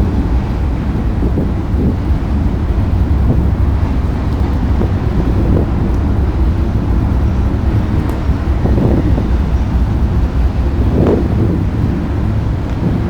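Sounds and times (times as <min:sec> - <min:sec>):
train rumbling across trestle: 0:00.0 - 0:13.0
wind on microphone: 0:00.0 - 0:13.0.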